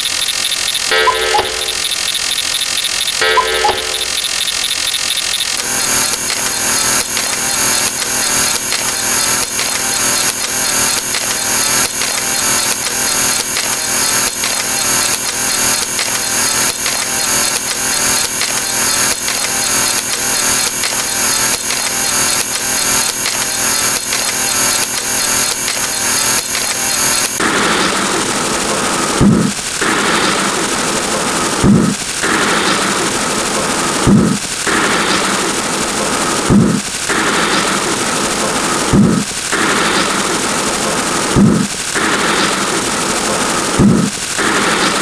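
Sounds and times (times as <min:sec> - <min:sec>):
high-pitched whine: 0:00.0 - 0:45.0
layered sound effects din: 0:00.0 - 0:45.0.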